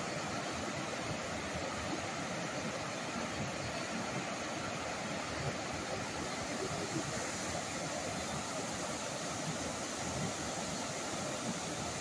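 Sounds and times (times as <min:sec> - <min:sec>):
water rushing over boulders: 0:00.0 - 0:12.0.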